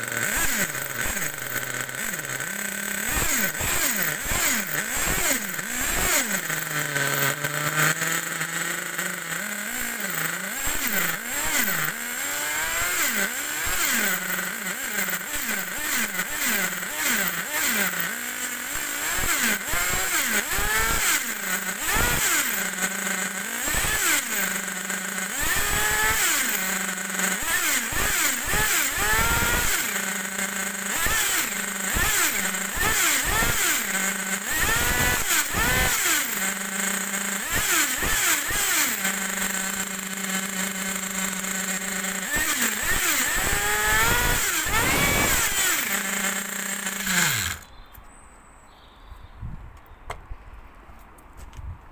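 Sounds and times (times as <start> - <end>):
model engine idling and revving: 0.0 - 47.7.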